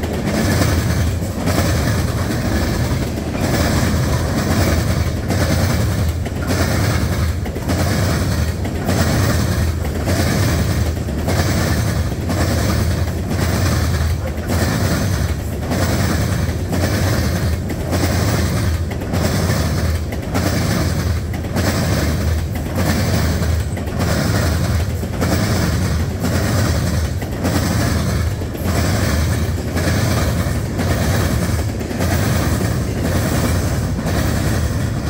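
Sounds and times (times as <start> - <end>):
freight train wheels on rails: 0.0 - 35.0.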